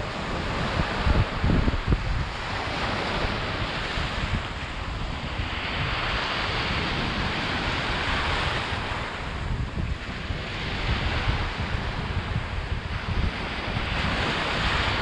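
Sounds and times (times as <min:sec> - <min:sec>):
sea waves surging: 0:00.0 - 0:15.0
wind rumbling on microphone: 0:00.0 - 0:15.0.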